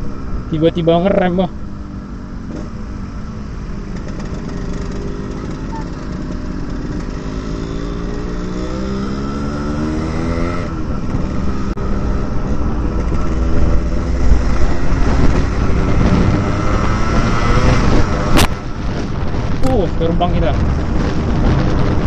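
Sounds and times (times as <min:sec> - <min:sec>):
motorcycle engine accelerating hard: 0:00.0 - 0:22.0.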